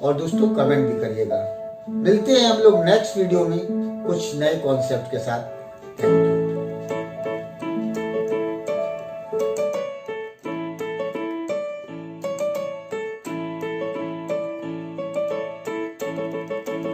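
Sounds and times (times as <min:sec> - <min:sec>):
electronic keyboard piano melody: 0:00.0 - 0:16.9.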